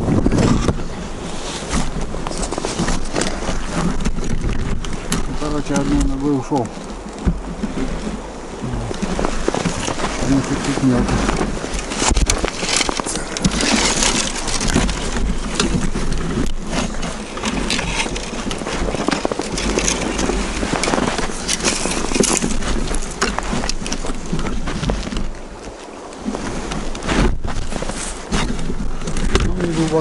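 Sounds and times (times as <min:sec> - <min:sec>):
steady low rumble: 0:00.0 - 0:25.6
footsteps crunching in snow: 0:00.0 - 0:30.0.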